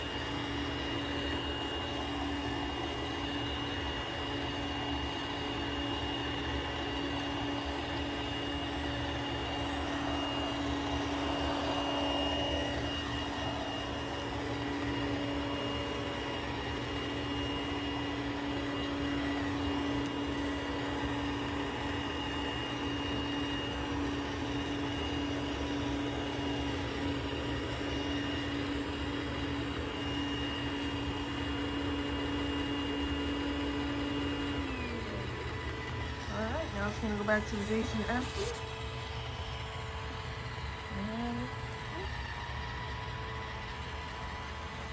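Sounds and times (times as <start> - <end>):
high-pitched whine: 0.0 - 40.1
robot vacuum motor hum: 0.0 - 44.9.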